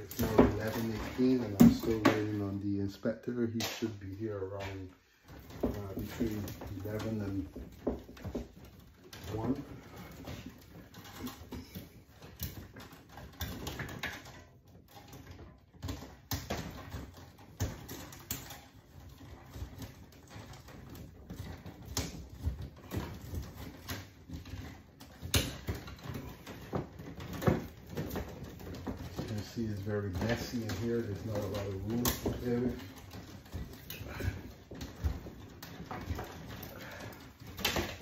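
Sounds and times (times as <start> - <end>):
cables rustling: 0.0 - 38.0.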